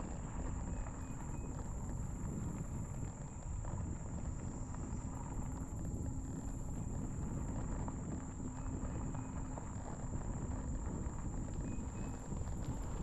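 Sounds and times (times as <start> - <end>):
tyres rolling on pavement: 0.0 - 13.0
wind rumbling on microphone: 0.0 - 13.0.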